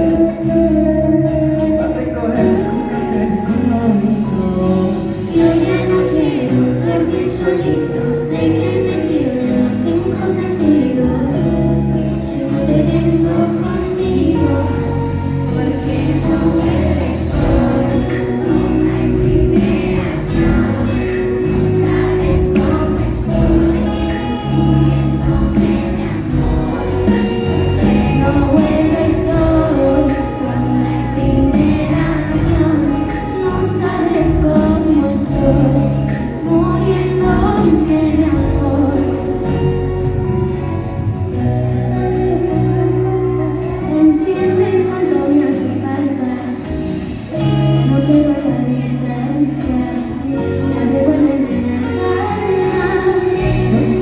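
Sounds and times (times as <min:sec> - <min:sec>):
crowd singing: 0:00.0 - 0:54.0
live pop band playing: 0:00.0 - 0:54.0.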